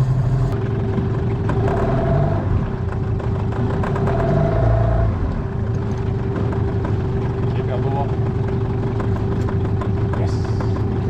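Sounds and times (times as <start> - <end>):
small boat motor running: 0.0 - 11.0.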